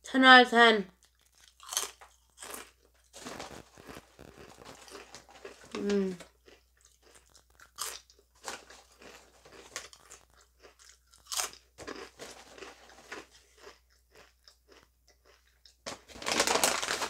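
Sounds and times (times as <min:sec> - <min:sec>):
person chewing crunchy chips: 0:01.0 - 0:17.0.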